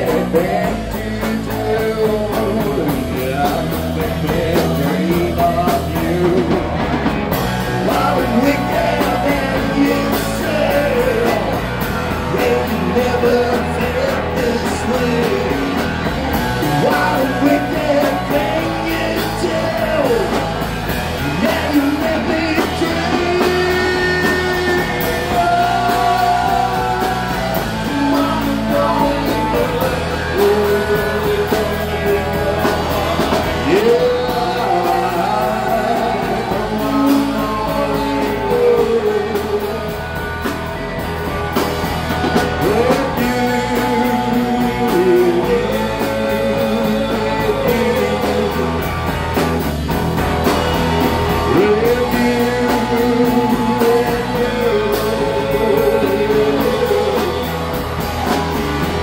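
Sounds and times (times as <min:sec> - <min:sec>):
person singing: 0:00.0 - 0:49.6, 0:50.2 - 0:59.0
bass guitar: 0:00.0 - 0:59.0
drums: 0:00.0 - 0:59.0
electric guitar with bent notes: 0:00.0 - 0:59.0.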